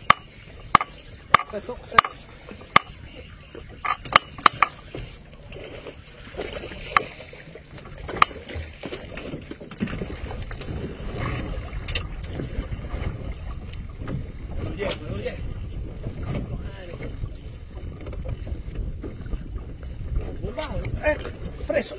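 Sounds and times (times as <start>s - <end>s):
water around a boat: 0.0s - 21.9s
wind: 0.0s - 21.9s.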